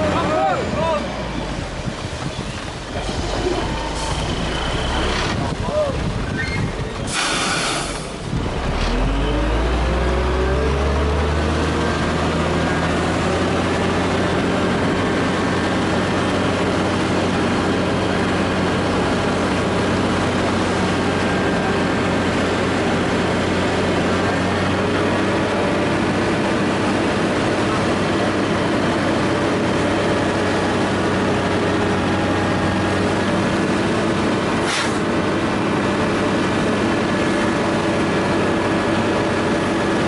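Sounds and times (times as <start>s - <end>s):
heavy machine engine revving: 0.0s - 40.0s.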